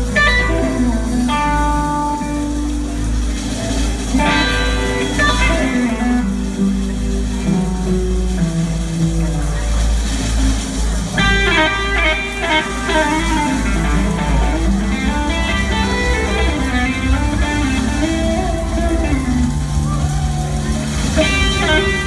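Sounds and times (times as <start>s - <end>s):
bass: 0.0s - 22.0s
drums: 0.0s - 22.0s
electric guitar lead runs: 0.0s - 22.0s.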